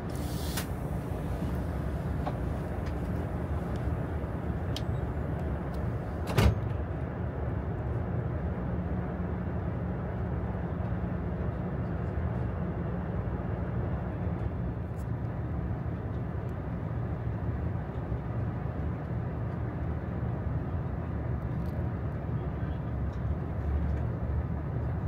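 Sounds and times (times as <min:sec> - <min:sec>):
train cabin rumble and hiss: 0:00.0 - 0:25.0.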